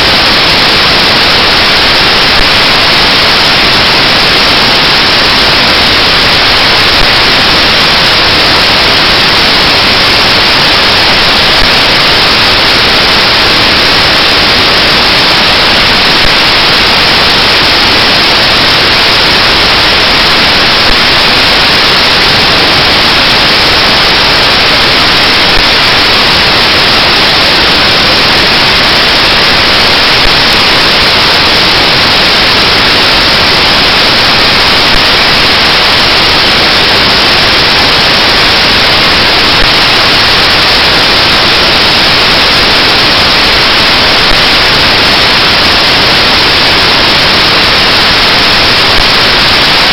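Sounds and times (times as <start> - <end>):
static hiss: 0.0 - 49.9.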